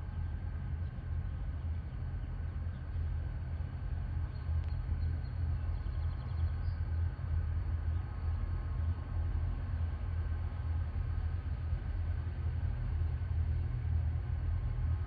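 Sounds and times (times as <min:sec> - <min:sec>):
diesel train rumbling: 0:00.0 - 0:15.0
faint mechanical hum: 0:00.0 - 0:15.0.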